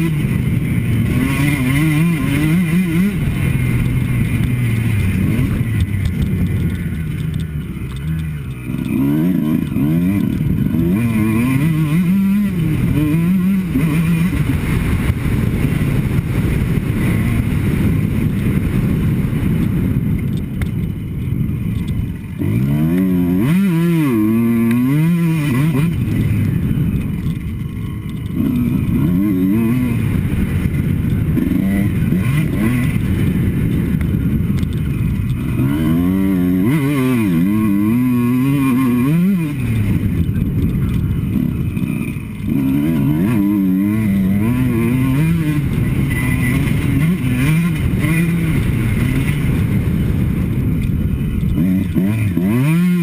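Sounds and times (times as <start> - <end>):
two-stroke motocross engine revving: 0.0 - 53.0.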